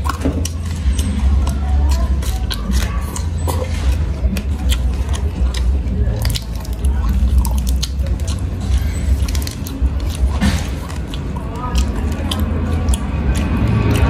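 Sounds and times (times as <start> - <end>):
lettuce crunching while chewed: 0.0 - 14.0
lettuce leaves tearing: 0.0 - 14.0
steady low hum: 0.0 - 14.0.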